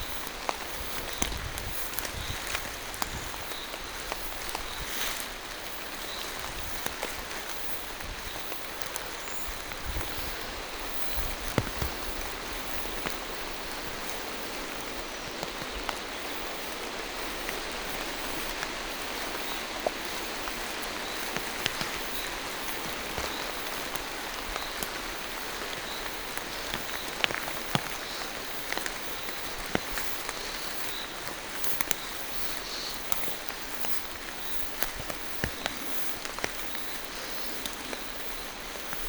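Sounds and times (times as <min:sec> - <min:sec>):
rain falling through forest: 0:00.0 - 0:39.0
sharp raindrop taps: 0:05.6 - 0:38.1.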